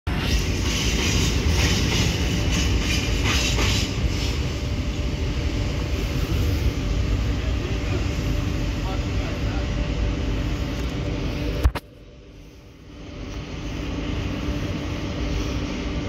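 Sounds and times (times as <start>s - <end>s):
electric locomotive droning: 0.1s - 16.0s.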